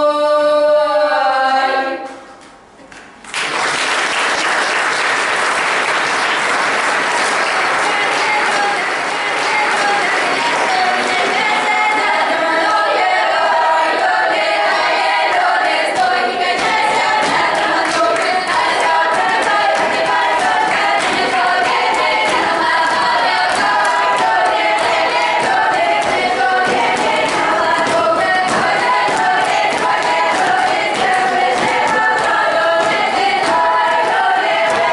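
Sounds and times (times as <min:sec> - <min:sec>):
children's choir singing: 0:00.0 - 0:02.3, 0:05.9 - 0:34.9.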